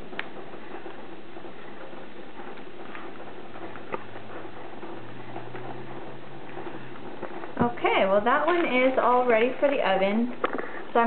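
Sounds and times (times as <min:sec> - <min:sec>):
low steady hum: 0:00.0 - 0:11.0
nut pieces ticking onto batter: 0:00.0 - 0:11.0.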